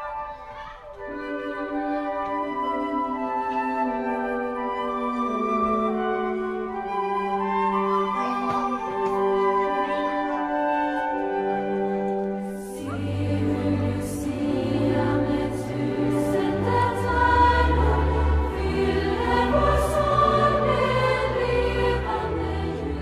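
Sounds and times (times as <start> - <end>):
choir singing with accompaniment: 0.0 - 23.0.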